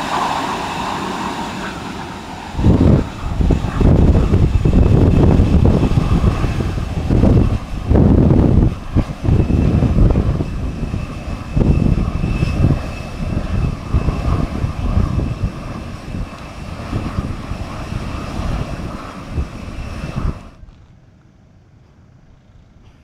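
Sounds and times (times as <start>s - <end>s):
airliner engines whine and rumble: 0.0s - 23.0s.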